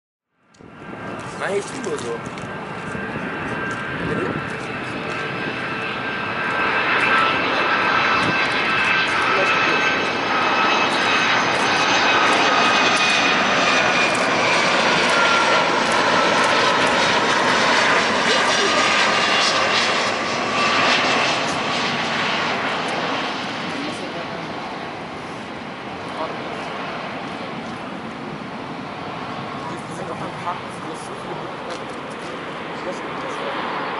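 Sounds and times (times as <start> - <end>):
jet engine whine: 0.3 - 33.9
jet airliner rumble: 0.6 - 33.9.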